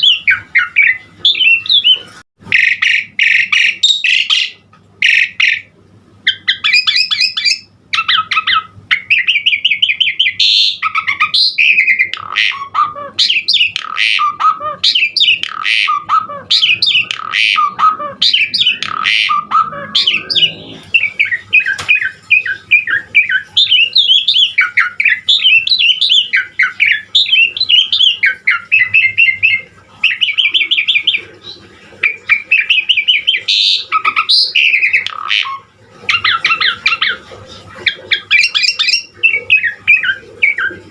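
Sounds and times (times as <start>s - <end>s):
faint steady hum: 0.0s - 40.9s
starling singing: 0.0s - 40.9s.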